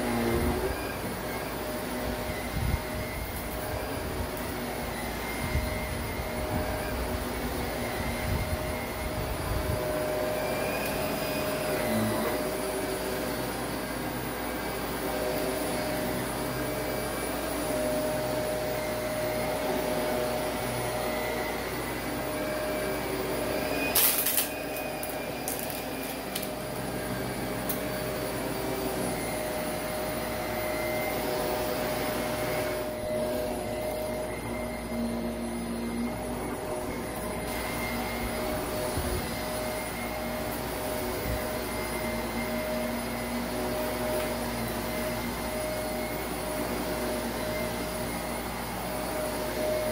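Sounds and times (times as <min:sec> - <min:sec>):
upright vacuum running: 0:00.0 - 0:49.9.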